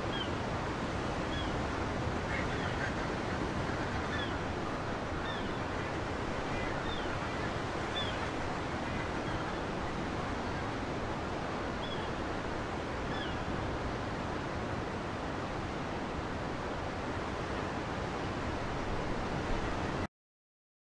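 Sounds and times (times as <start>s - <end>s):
sea surf on rocky shore: 0.0s - 20.1s.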